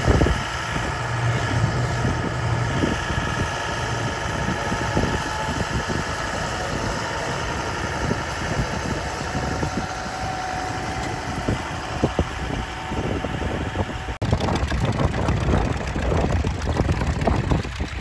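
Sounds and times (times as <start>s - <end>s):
uneven tractor engine beat: 0.0s - 13.0s, 14.2s - 18.0s
tractor engine under load: 0.0s - 18.0s.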